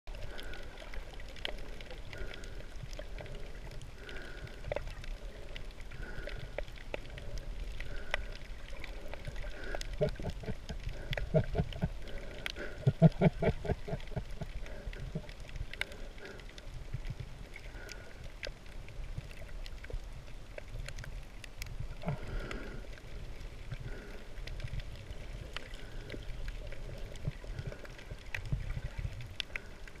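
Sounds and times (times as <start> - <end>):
clicks and crackles: 0.1 - 30.0
underwater rumble of water: 0.1 - 30.0.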